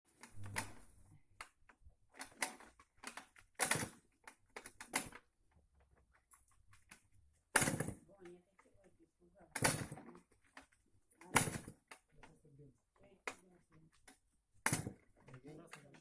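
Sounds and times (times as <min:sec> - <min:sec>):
clicking and knocking: 0:00.1 - 0:16.0.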